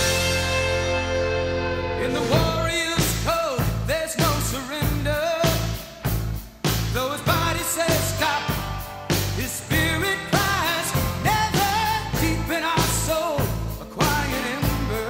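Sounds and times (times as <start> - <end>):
person singing: 0.0 - 5.8, 6.9 - 15.0
bass guitar: 0.0 - 15.0.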